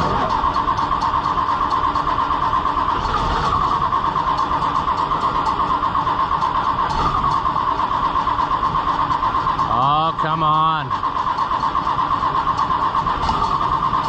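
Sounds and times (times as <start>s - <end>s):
diesel engine cranking: 0.0s - 14.0s.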